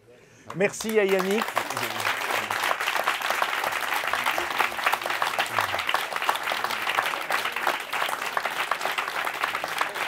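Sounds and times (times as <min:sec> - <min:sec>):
audience applauding: 0:00.5 - 0:10.0.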